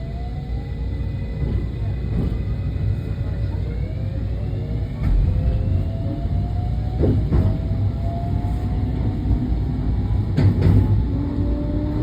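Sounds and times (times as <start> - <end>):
train rumble and whine: 0.0 - 12.0.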